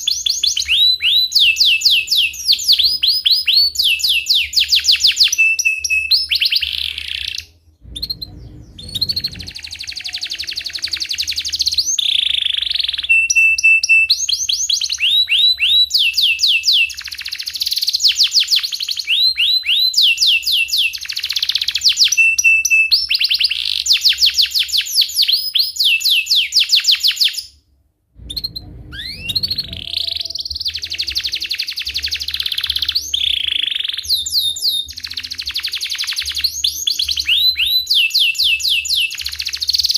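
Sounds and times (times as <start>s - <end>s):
canary singing: 0.0s - 27.5s, 28.2s - 39.9s.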